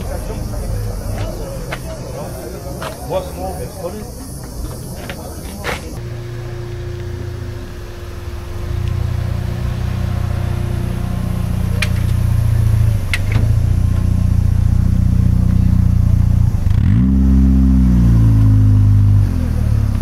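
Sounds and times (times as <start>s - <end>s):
car engine running: 0.0s - 5.2s, 5.8s - 20.0s.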